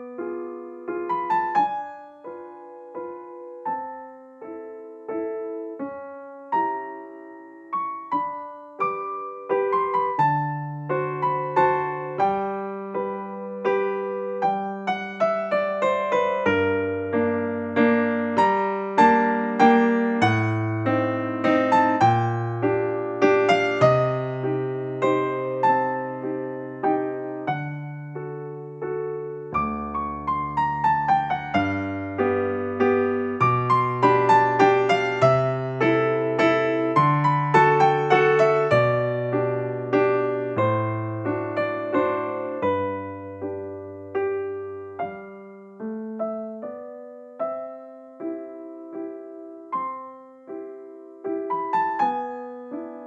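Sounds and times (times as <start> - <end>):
electric piano melody: 0.0 - 53.0.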